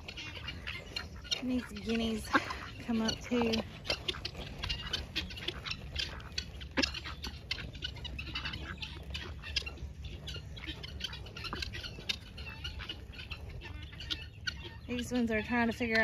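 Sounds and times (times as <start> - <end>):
bills pecking dirt: 0.0 - 16.0
bird calls: 0.0 - 16.0.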